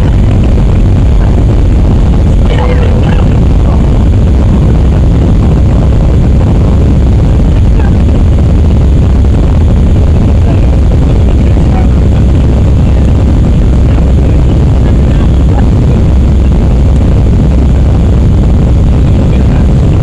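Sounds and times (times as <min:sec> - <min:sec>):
jet engines roaring: 0:00.0 - 0:20.0
rushing air: 0:00.0 - 0:20.0.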